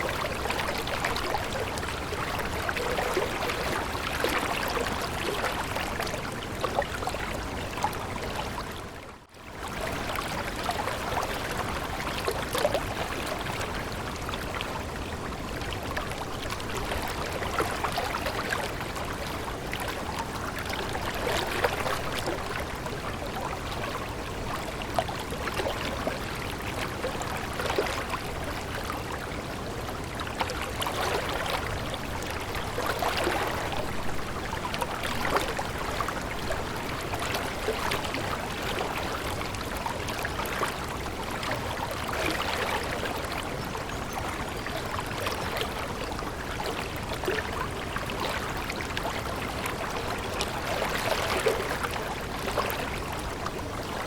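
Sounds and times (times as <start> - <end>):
small splashes and trickles: 0.0 - 54.0
water flowing and babbling: 0.0 - 54.0.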